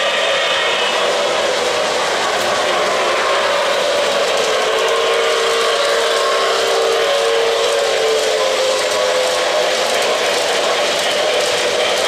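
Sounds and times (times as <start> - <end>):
model trains rolling: 0.0 - 12.0.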